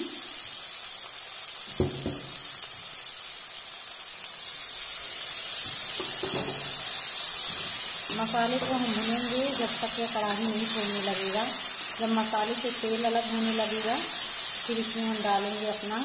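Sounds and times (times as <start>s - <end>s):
masala sizzling in hot oil: 0.0s - 16.0s.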